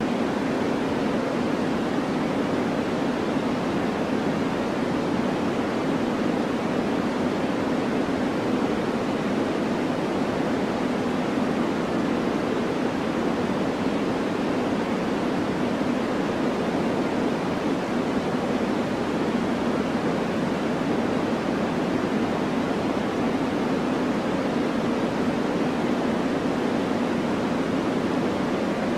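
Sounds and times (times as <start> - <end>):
deep white noise hiss: 0.0 - 28.9.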